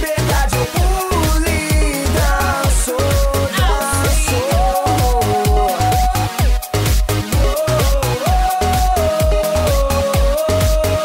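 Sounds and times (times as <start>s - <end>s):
upbeat electronic dance music: 0.0s - 11.0s.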